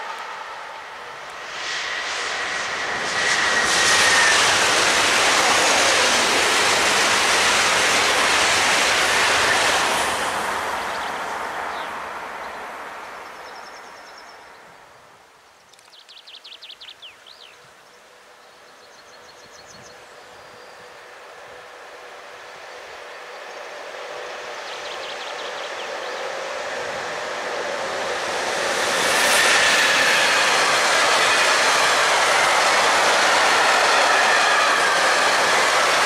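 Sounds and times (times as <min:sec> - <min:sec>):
passenger train passing: 0:00.0 - 0:15.0, 0:17.4 - 0:36.0.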